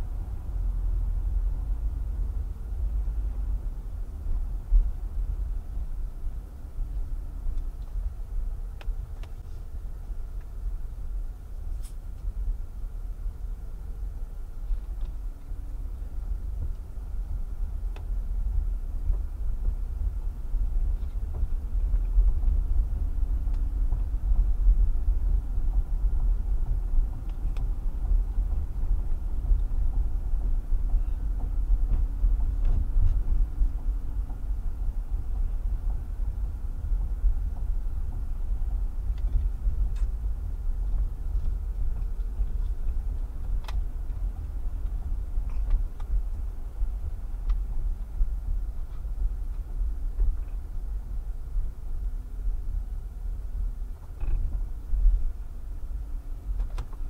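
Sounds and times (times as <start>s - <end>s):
car cabin rumble: 0.0s - 57.0s.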